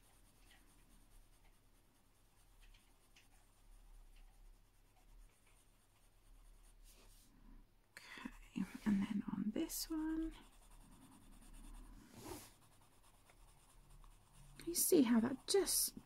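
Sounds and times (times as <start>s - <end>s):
coloured pencil scratching paper: 0.0s - 7.3s, 8.3s - 16.0s.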